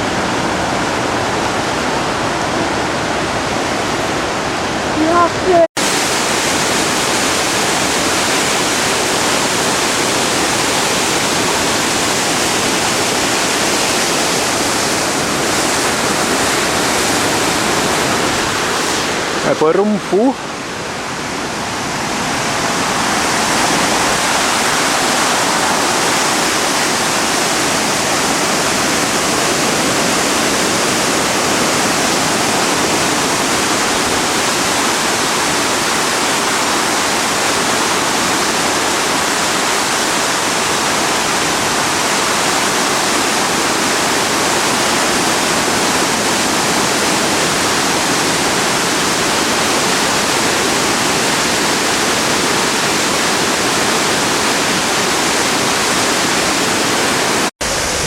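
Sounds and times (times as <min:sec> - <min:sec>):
rushing floodwater: 0:00.0 - 0:58.0.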